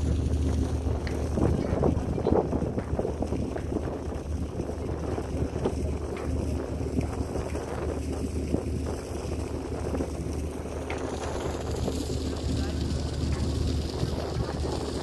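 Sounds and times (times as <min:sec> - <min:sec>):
ferry engines humming: 0:00.0 - 0:15.0
wind buffeting microphone: 0:00.0 - 0:15.0.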